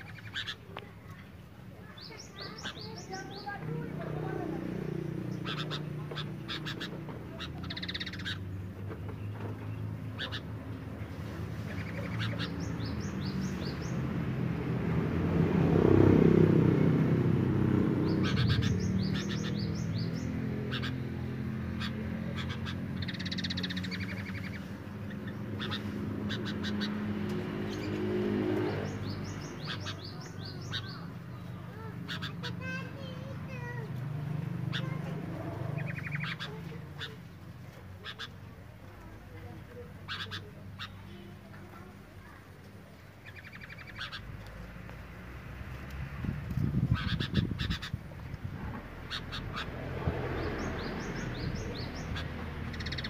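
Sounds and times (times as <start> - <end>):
birds chattering: 0.0 - 53.0.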